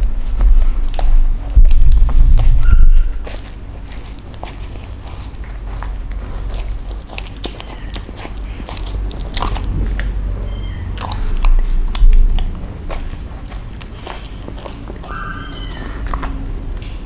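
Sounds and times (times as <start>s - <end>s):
dog chewing bread: 0.0s - 17.0s.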